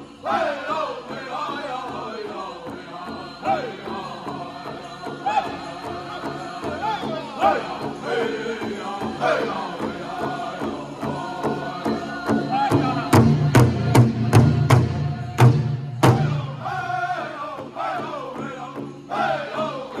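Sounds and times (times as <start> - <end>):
group singing in unison: 0.0 - 20.0.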